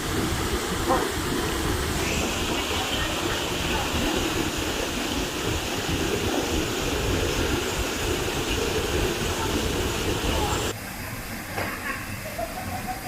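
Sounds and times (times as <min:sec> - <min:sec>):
waterfall rushing: 0:00.0 - 0:12.2.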